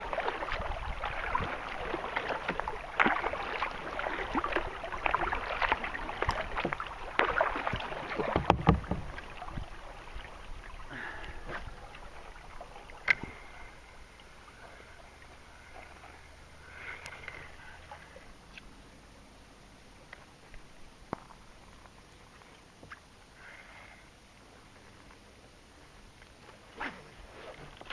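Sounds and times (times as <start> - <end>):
water splashing around a kayak: 0.0 - 27.9.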